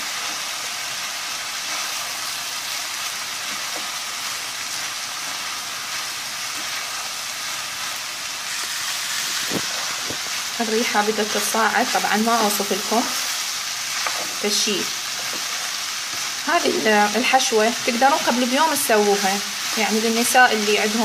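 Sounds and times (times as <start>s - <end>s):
vegetables sizzling in oil: 0.0s - 21.0s
spatula stirring in pan: 1.6s - 21.0s.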